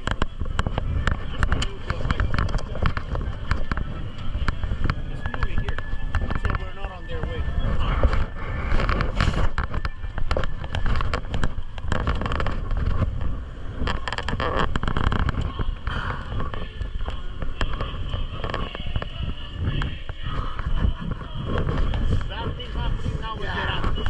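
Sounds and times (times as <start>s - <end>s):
dirt bike engines running: 0.0s - 24.0s
engine crackles and pops: 0.0s - 24.0s.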